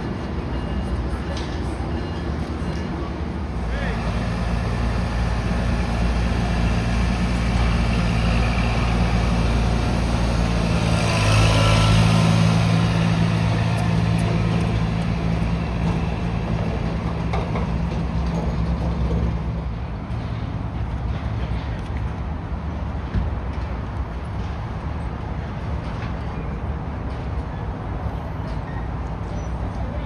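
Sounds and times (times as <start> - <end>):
train rumble and hum: 0.0 - 30.0.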